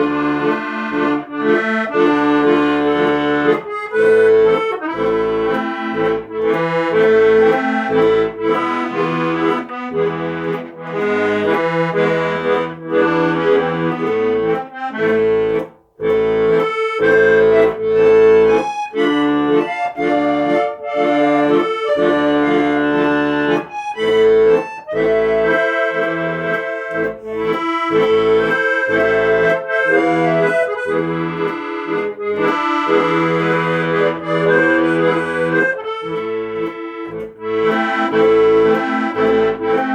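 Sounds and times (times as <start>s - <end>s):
instrumental melody over held chords: 0.0s - 39.9s.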